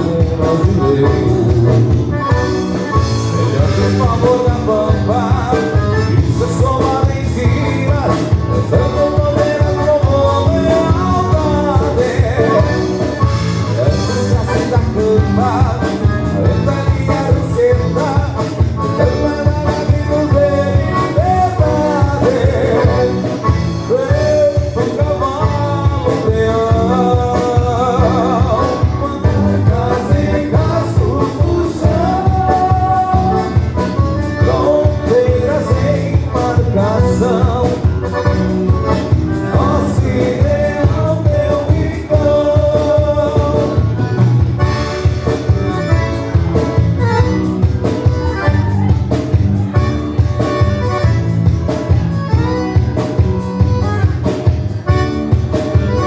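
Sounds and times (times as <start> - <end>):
lead melody line: 0.0 - 56.0
live band playing: 0.0 - 56.0.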